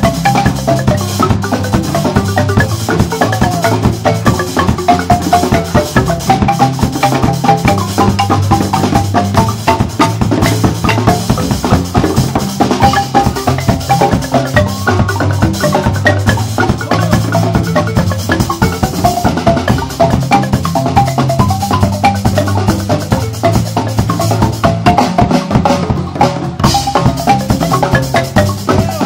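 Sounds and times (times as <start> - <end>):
drum kit: 0.0 - 29.0
marimba ensemble playing: 0.0 - 29.0.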